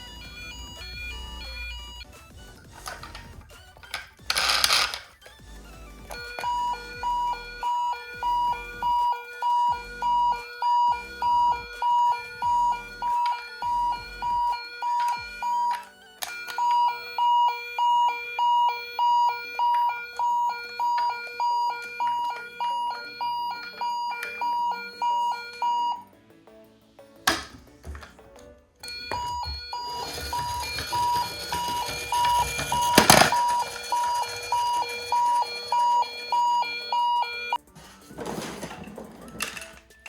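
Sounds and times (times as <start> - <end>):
toy electronic two-tone siren: 0.0 - 26.1, 28.8 - 37.6.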